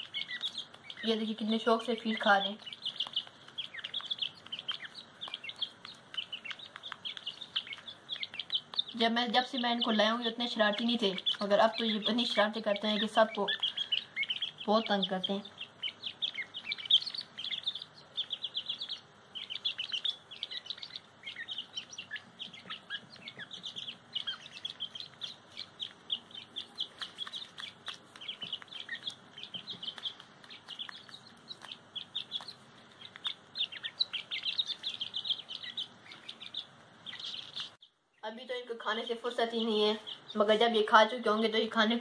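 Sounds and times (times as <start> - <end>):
partridge chicks chirping: 0.0 - 42.0.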